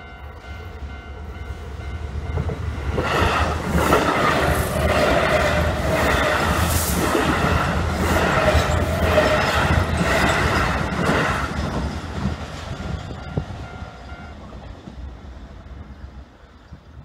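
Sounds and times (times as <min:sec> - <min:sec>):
train wheels clacking: 0:00.0 - 0:15.3
electric train passing: 0:00.0 - 0:17.0.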